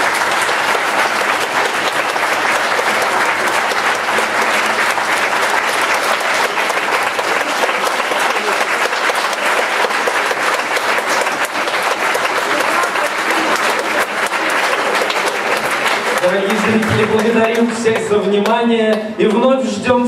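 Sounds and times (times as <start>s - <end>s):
audience applauding: 0.0s - 19.5s.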